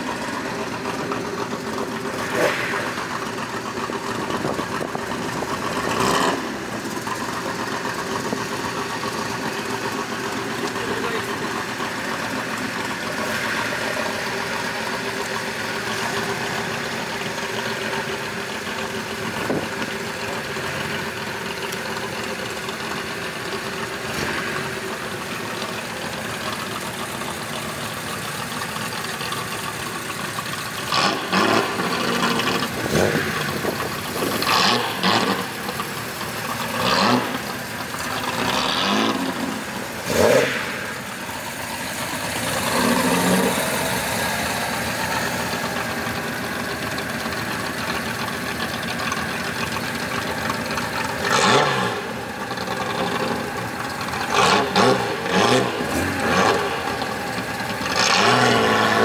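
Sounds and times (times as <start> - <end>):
car engines running: 0.0 - 59.0
engine throttle blips: 0.0 - 59.0.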